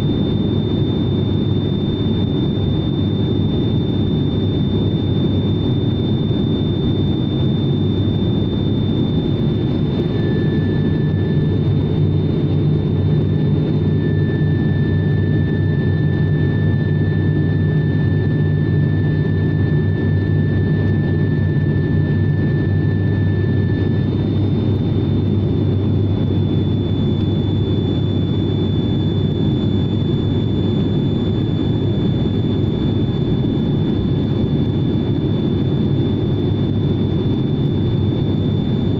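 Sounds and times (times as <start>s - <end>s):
airliner engines and propellers droning: 0.0s - 38.9s
lower whine: 0.0s - 38.9s
thin high whine: 0.0s - 38.9s.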